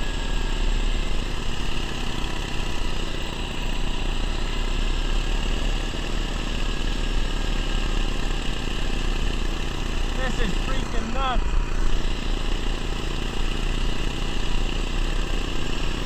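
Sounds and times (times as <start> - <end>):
small engine running under load: 0.0 - 16.0.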